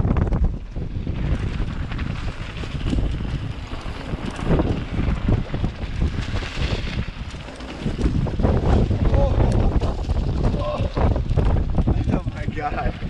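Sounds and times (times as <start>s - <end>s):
bike knocks and rattles: 0.0s - 13.0s
tyres rumbling on dirt trail: 0.0s - 13.0s
wind buffeting microphone: 0.0s - 13.0s.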